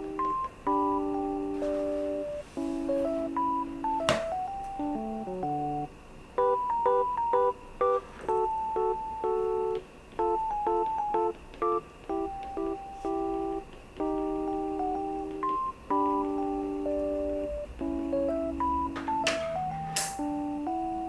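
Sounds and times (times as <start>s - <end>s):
gentle electric piano melody: 0.0s - 21.0s.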